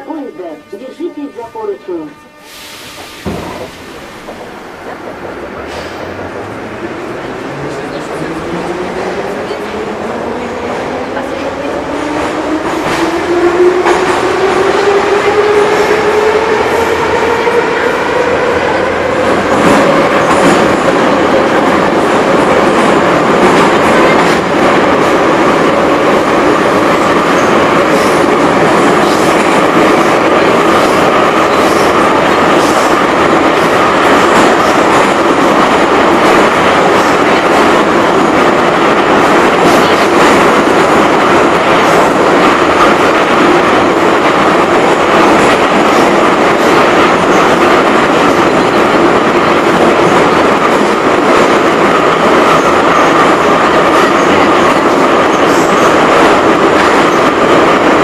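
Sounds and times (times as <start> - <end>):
train running in tunnel: 0.0 - 58.0
rail clicks: 2.8 - 58.0.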